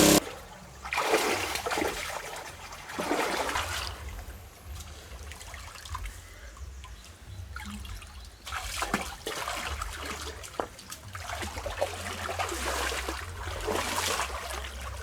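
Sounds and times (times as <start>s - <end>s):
water splashing and trickling: 0.2s - 15.0s.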